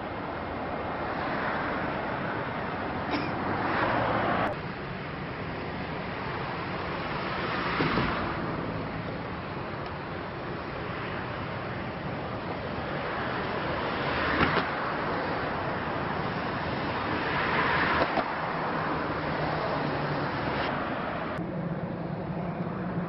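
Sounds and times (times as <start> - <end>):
distant turboprop engine rushing: 0.0 - 23.0.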